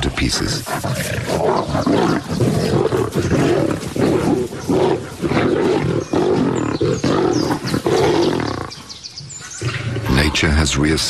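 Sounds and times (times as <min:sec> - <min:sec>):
lions snarling and roaring: 0:00.0 - 0:11.0.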